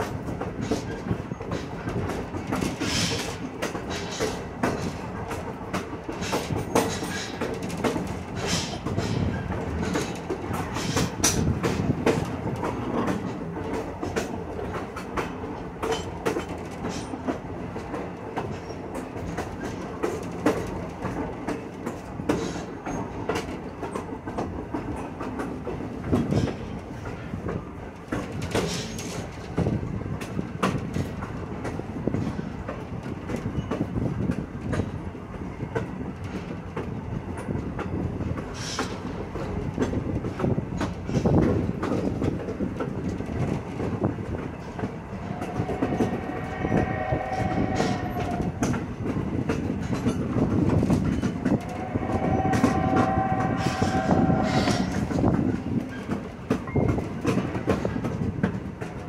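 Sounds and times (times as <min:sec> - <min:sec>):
clatters over rail joints: 0:00.0 - 0:59.0
train wheels rumbling on rail: 0:00.0 - 0:59.0.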